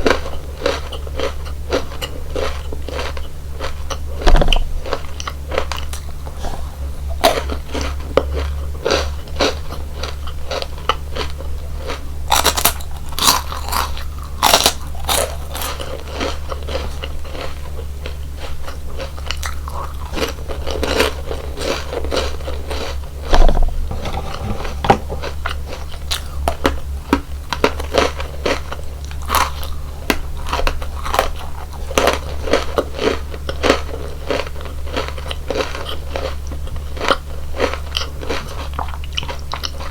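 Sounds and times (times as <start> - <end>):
crunching and chewing snacks: 0.0 - 39.9.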